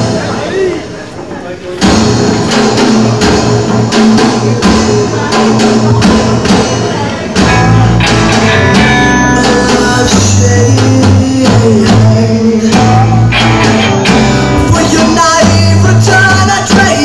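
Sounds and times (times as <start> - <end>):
drum beat: 1.8 - 17.0
live rock band playing: 1.8 - 17.0.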